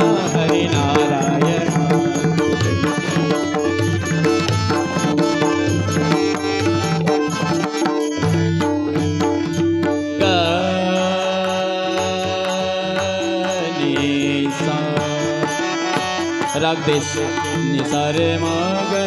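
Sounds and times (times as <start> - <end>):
tabla beat: 0.0 - 19.0.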